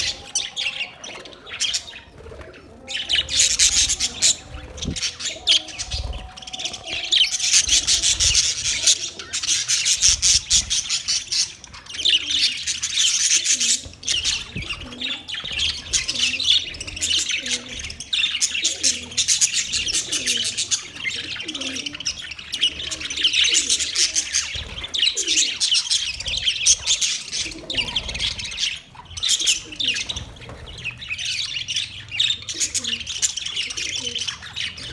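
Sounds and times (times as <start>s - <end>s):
parrots chirping: 0.0s - 34.9s.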